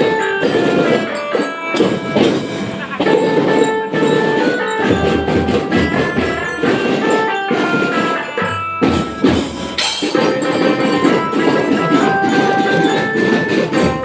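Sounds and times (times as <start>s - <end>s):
drum strokes: 0.0s - 14.0s
marching band playing: 0.0s - 14.0s.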